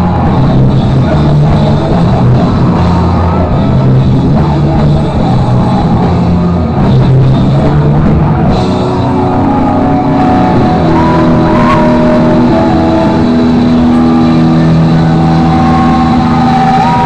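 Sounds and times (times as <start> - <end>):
drum kit: 0.0 - 17.0
electric guitar: 0.0 - 17.0
live rock band playing: 0.0 - 17.0.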